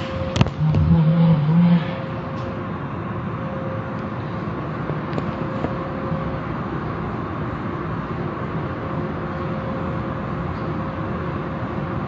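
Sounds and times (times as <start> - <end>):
car wash equipment running: 0.0 - 12.0.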